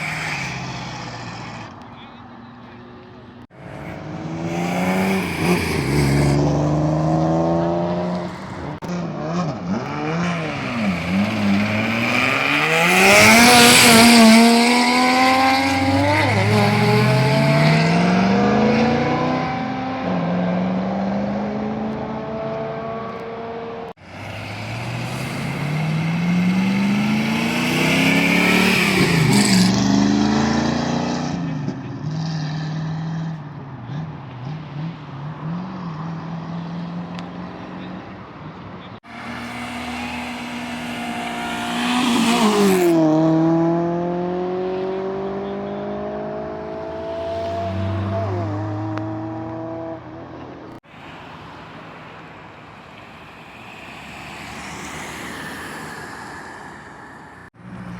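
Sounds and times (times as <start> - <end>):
vehicle engine accelerating hard: 0.0 - 38.1, 38.8 - 50.8.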